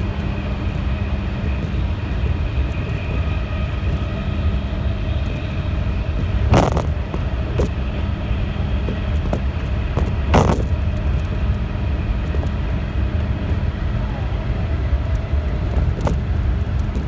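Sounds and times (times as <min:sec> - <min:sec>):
train rumble in tunnel: 0:00.0 - 0:17.0.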